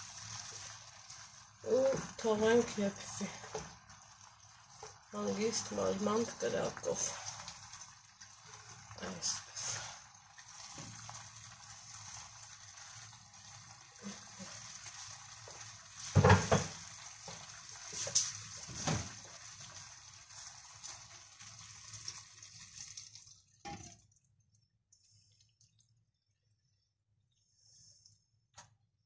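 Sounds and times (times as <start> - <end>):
food sizzling in a pan: 0.0 - 24.1.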